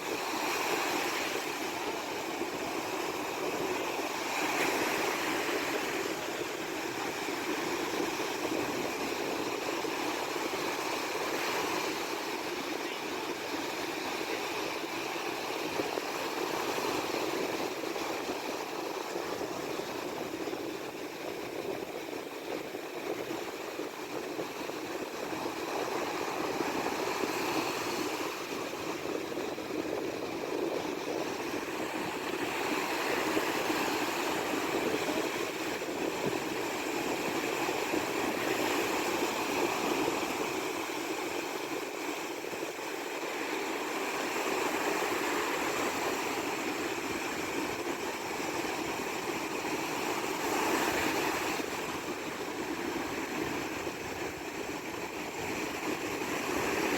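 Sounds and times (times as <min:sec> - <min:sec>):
waves breaking: 0:00.0 - 0:56.9.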